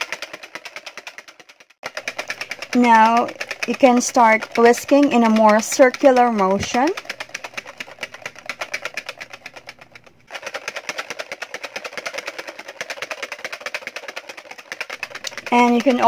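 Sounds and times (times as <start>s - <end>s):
whisk clicking against bowl: 0.0s - 16.0s.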